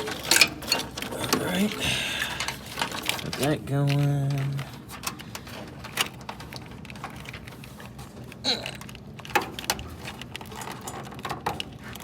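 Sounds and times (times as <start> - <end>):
wiring and connectors clicking: 0.0 - 12.0.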